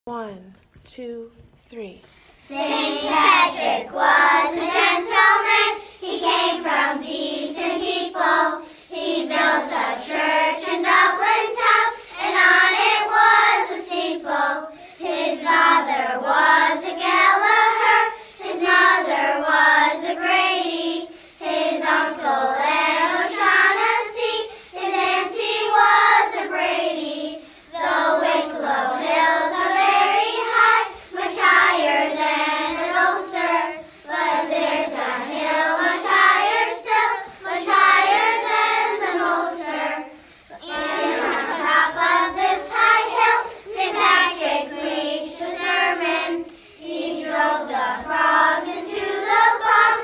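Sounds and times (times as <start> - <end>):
child singing unaccompanied: 2.4 - 50.0.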